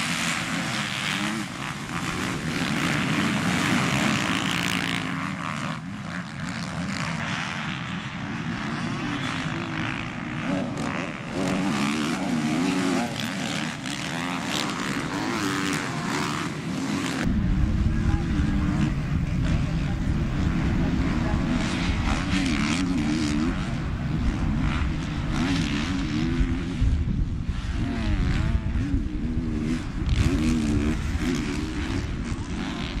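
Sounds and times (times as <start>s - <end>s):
motocross bikes revving: 0.0s - 33.0s.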